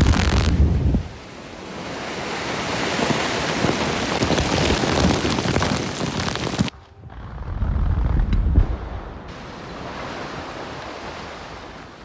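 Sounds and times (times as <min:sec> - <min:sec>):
rushing debris and dust: 0:01.8 - 0:12.0.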